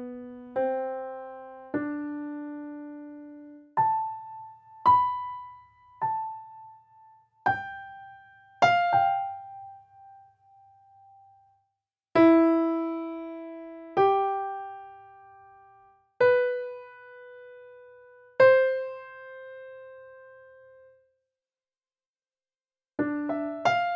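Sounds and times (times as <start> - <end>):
slow solo piano melody: 0.0 - 11.6, 12.2 - 21.1, 23.0 - 23.9.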